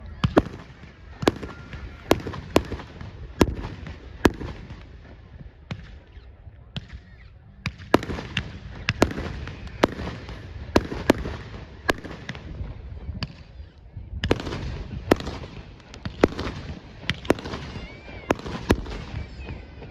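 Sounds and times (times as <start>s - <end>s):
fireworks sharp bangs: 0.0s - 7.0s, 7.6s - 13.6s, 14.2s - 19.9s
low rumble of fireworks bursts: 0.0s - 19.9s.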